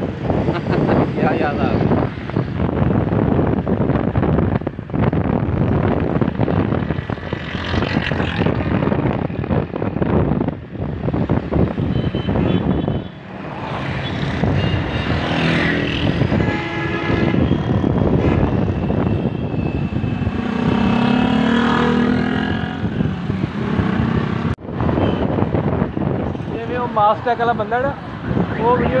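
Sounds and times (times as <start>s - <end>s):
passing vehicle engines: 0.0s - 29.0s
road rumble: 0.0s - 29.0s.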